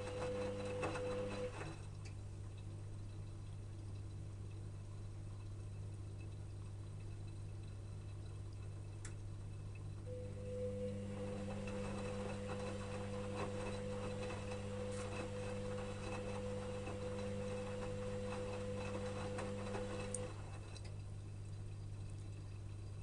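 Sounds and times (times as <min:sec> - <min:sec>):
low mains hum: 0:00.0 - 0:23.0
washing machine motor hum: 0:00.0 - 0:23.0
washing machine splashing and clicking: 0:00.0 - 0:23.0.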